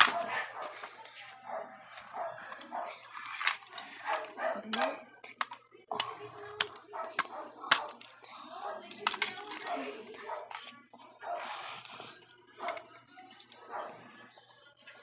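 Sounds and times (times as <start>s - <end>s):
plastic toys clicking on tile: 0.0s - 1.3s, 1.9s - 13.6s.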